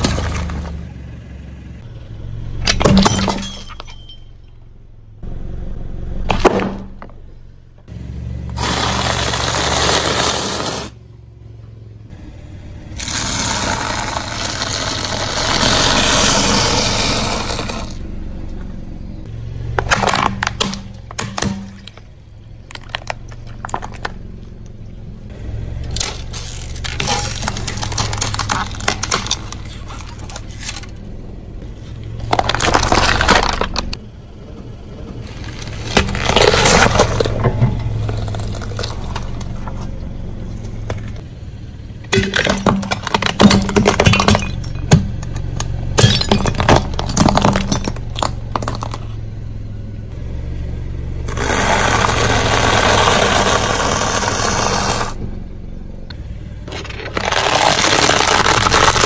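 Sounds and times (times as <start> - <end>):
car tyre crunching brittle objects: 0.0 - 1.0, 6.3 - 11.0, 13.0 - 34.0, 35.1 - 49.8, 51.2 - 59.0
car engine running: 0.0 - 59.0.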